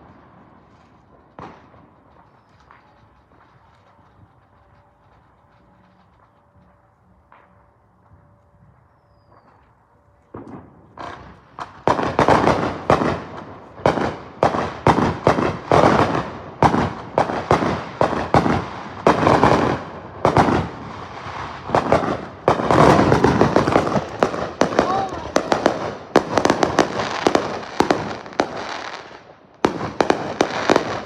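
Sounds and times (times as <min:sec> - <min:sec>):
fireworks banging and crackling: 0:00.0 - 0:31.0.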